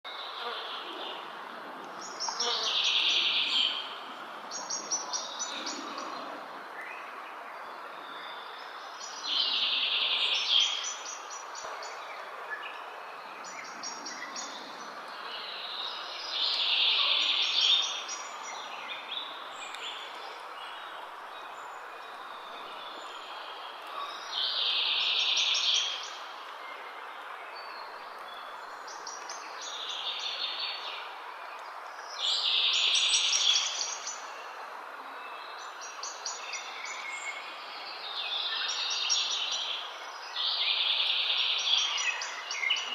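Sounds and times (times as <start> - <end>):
outdoor background noise: 0.0 - 42.9.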